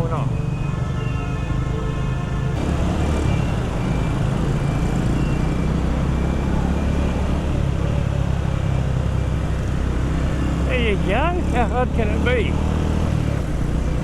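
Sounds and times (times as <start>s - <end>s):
motorcycle engine rumble: 0.0s - 14.0s
road traffic: 0.0s - 14.0s
wind and road noise: 0.0s - 14.0s.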